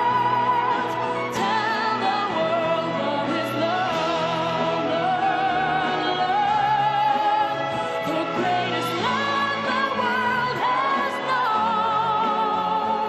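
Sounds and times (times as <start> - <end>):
person singing with vibrato: 0.0 - 13.0.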